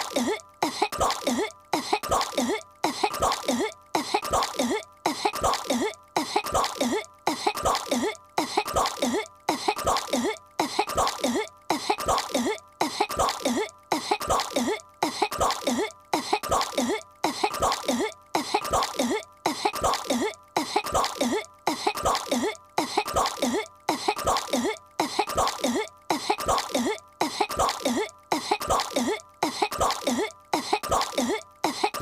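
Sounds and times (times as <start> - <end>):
cartoon girl coughing: 0.0 - 32.0.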